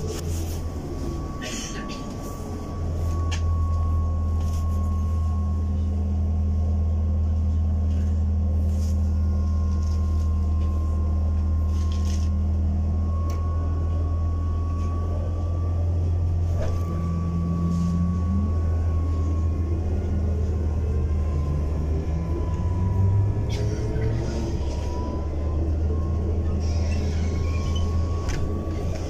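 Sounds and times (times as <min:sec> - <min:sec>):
faint whine: 0:00.0 - 0:29.0
low electrical hum: 0:00.0 - 0:29.0.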